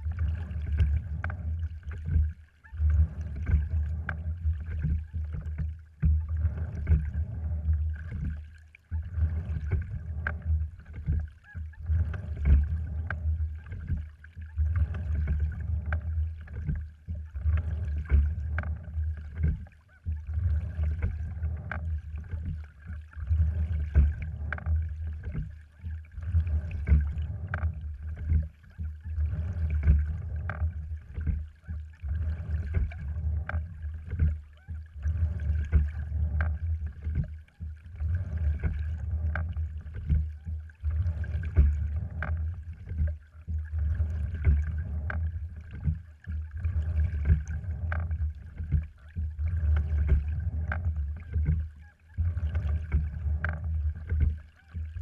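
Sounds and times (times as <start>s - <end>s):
water rumbling along a hull: 0.0s - 55.0s.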